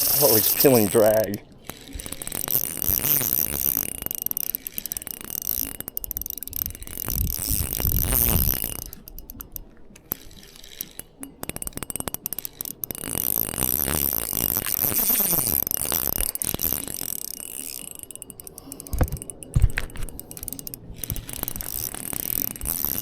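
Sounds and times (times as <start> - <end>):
fishing reel clicking and ratcheting: 0.0 - 23.0.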